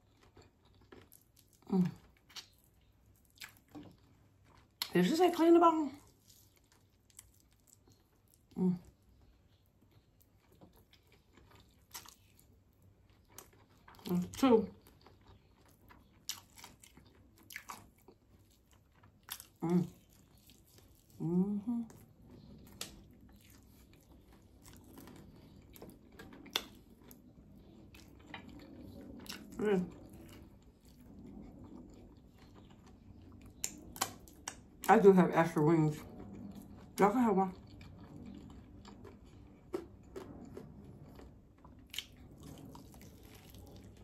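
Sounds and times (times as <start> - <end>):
chewing and biting: 0.0 - 5.0, 6.0 - 21.2, 21.8 - 34.9, 36.0 - 44.0.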